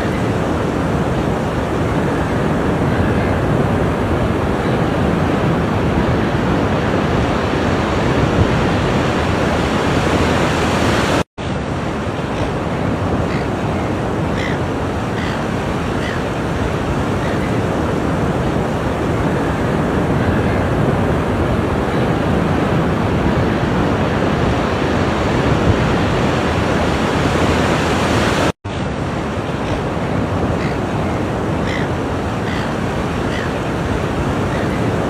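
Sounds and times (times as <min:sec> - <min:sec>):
ocean surf washing onto shore: 0:00.0 - 0:35.0.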